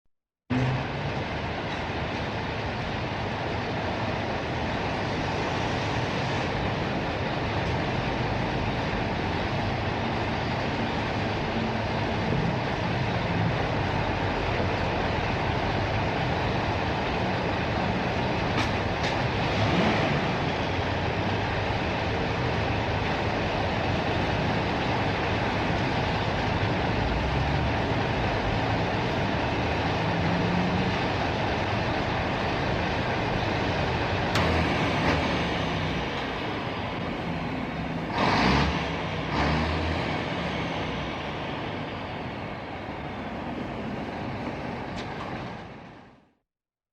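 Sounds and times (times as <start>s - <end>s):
heavy machinery rumbling: 0.5s - 46.2s.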